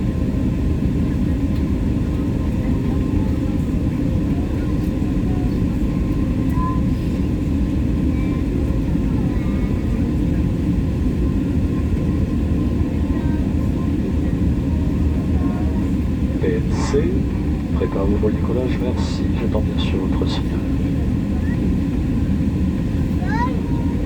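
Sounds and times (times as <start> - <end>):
airliner cabin rumble: 0.0 - 24.0
faint voices: 0.1 - 24.0.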